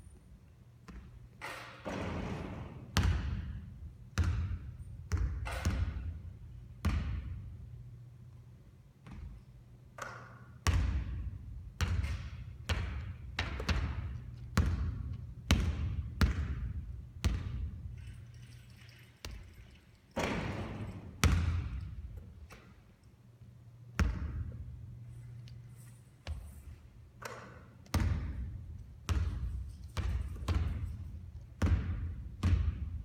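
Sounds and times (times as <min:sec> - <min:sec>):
basketball bouncing on hard court: 0:00.8 - 0:07.6, 0:09.0 - 0:18.3, 0:19.2 - 0:22.7, 0:24.0 - 0:24.8, 0:26.2 - 0:33.0.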